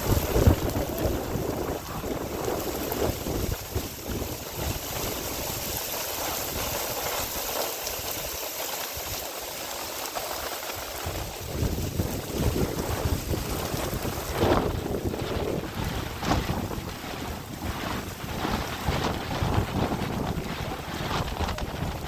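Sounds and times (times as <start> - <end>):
wind gusts buffeting microphone: 0.0 - 8.4, 10.8 - 22.0
heavy rain: 0.0 - 22.0.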